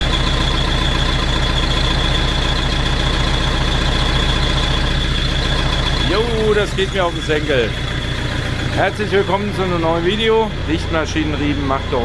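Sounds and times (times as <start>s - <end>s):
tractor engine idling: 0.0s - 12.0s
high-pitched belt whine: 0.1s - 12.0s.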